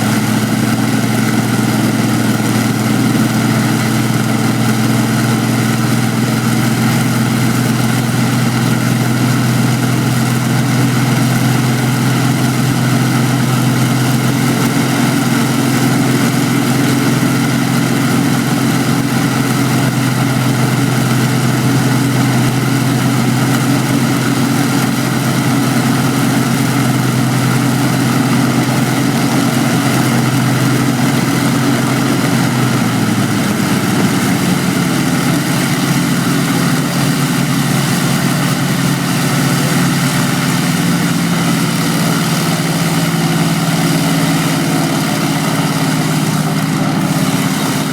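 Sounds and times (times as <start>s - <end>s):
aeroplane engine running: 0.0s - 47.9s.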